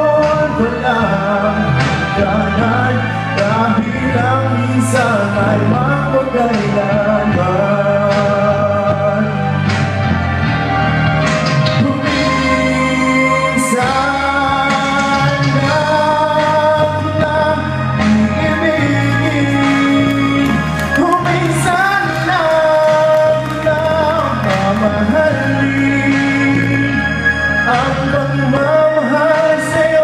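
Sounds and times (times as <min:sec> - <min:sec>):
steady bass line: 0:00.0 - 0:30.0.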